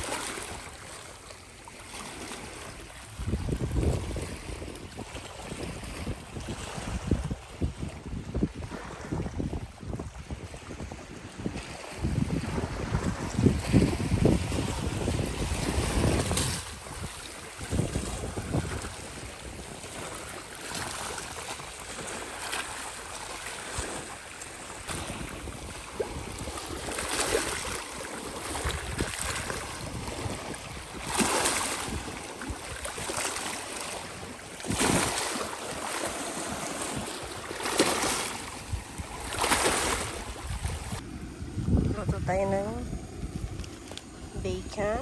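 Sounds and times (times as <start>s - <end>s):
waves washing over rocks: 0.0s - 7.7s, 10.6s - 45.0s.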